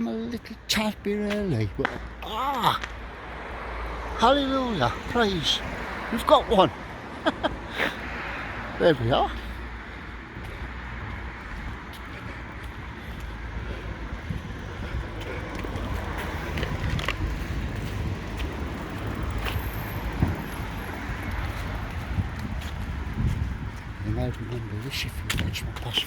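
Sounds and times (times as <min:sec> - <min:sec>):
distant traffic: 0:00.0 - 0:26.0
wind: 0:00.0 - 0:26.0.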